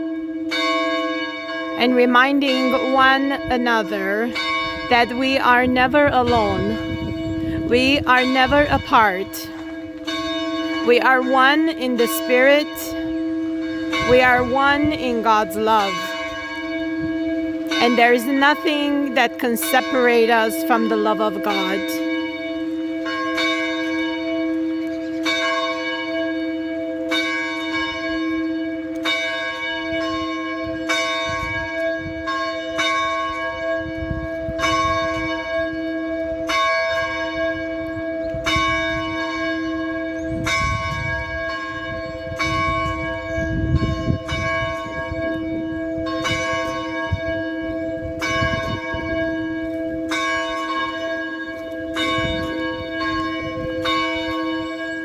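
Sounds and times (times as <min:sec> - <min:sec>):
church bell tolling: 0:00.0 - 0:55.0.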